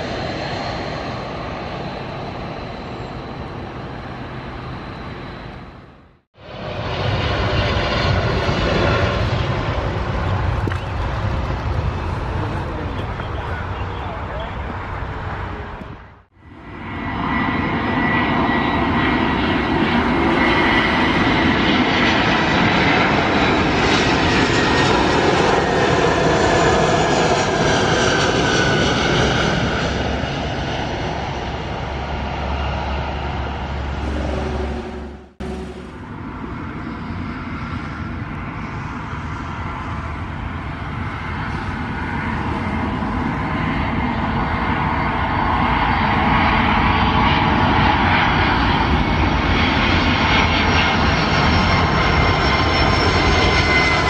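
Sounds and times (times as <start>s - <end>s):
airliner engines on approach: 0.0s - 54.0s
jet engines whining on approach: 0.0s - 54.0s.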